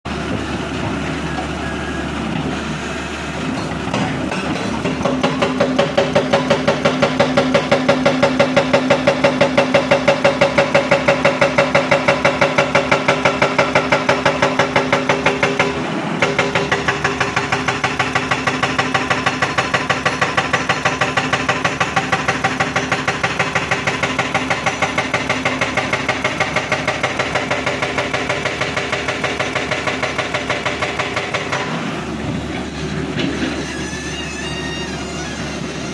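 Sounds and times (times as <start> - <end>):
excavator engine running: 0.1 - 35.9
hydraulic rock breaker hammering: 3.5 - 35.9.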